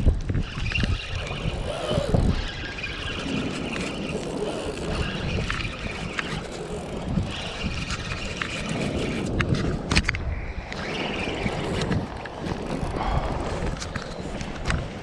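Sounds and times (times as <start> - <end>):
fishing reel whirring: 0.0 - 10.0, 10.7 - 14.6
wind rumbling on microphone: 0.0 - 15.0.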